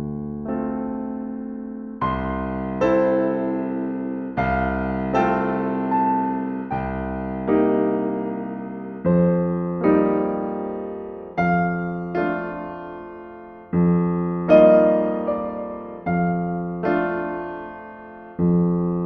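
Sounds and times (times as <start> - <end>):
slow solo piano chords: 0.0 - 19.0.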